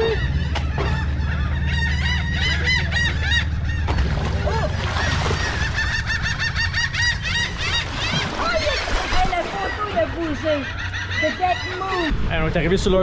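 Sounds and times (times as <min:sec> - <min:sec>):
birds calling: 0:00.0 - 0:12.2
steady low hum: 0:00.0 - 0:13.0.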